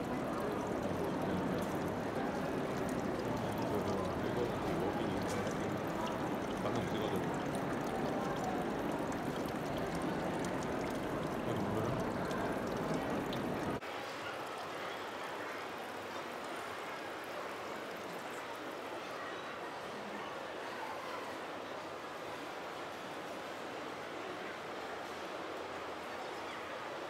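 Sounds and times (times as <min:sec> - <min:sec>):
background hiss and murmur: 0:00.0 - 0:27.0.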